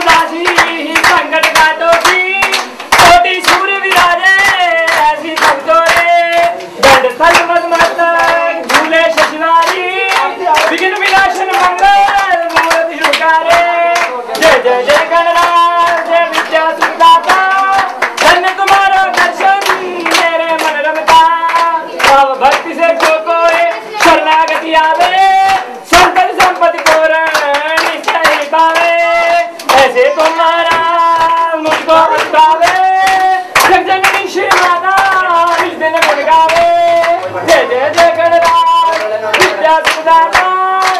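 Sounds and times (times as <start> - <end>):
devotional singing: 0.0 - 40.9
rhythmic hand-clapping: 0.0 - 40.9.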